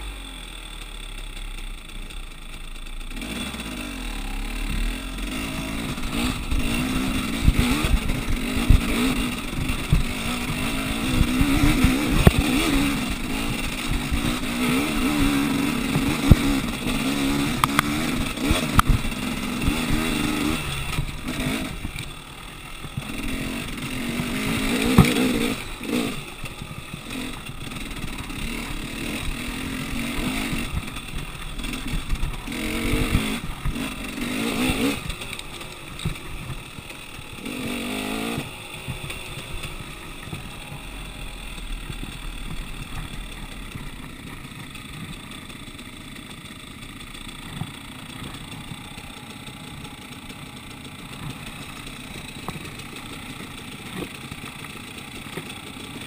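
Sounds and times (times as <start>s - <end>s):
dirt bike engine revving: 0.0s - 56.0s
rattling over bumps: 4.6s - 56.0s.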